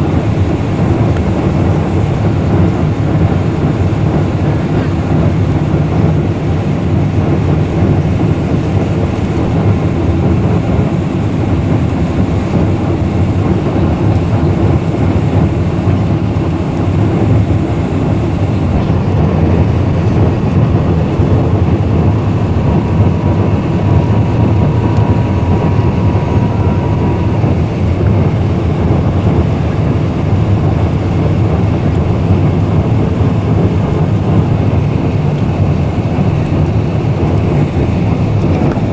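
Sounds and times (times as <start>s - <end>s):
airliner cabin engine noise: 0.0s - 38.9s.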